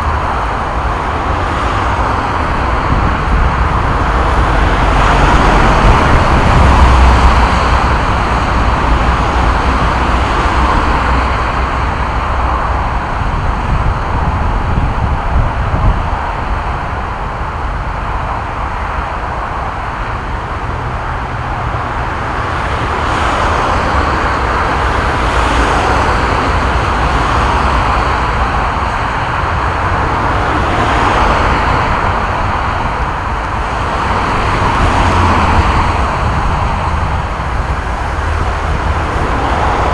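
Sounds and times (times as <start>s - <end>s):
motorway traffic rumble: 0.0s - 39.9s
vehicles passing by: 0.0s - 39.9s.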